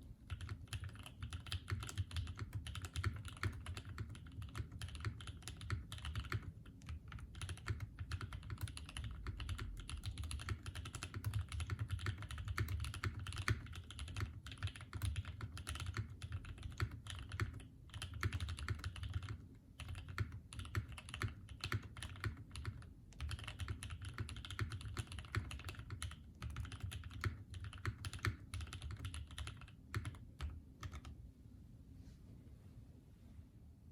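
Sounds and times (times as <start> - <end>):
mechanical keyboard typing: 0.3 - 31.2.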